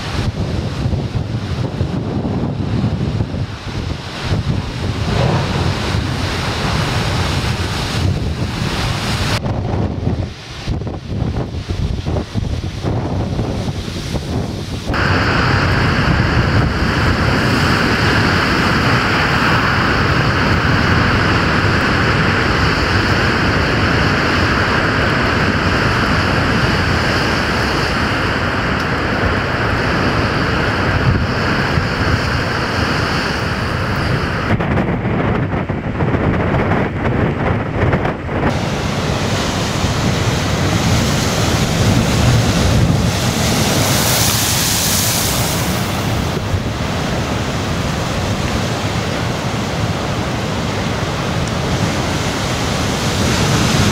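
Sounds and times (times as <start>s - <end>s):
waves crashing on rocky shore: 0.0s - 53.9s
wind buffeting microphone: 0.0s - 53.9s.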